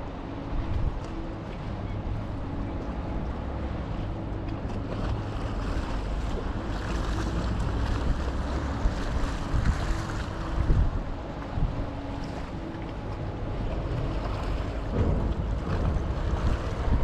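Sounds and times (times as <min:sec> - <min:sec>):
ferry engines droning: 0:00.0 - 0:17.0
water rushing past hull: 0:00.0 - 0:17.0
wind buffeting microphone: 0:00.0 - 0:17.0.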